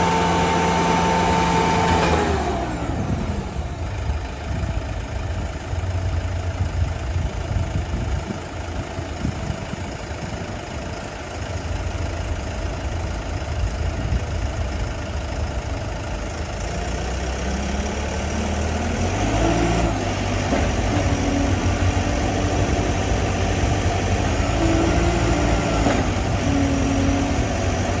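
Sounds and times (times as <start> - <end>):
diesel forklift engine revving: 0.0 - 28.0.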